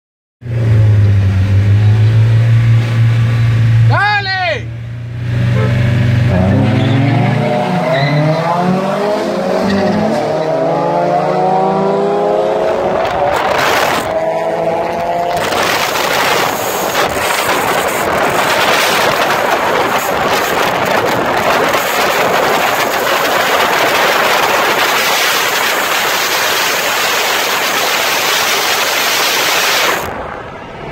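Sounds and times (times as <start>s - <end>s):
car engines accelerating: 0.4s - 4.0s, 4.6s - 30.9s
wind and road noise: 0.4s - 30.9s.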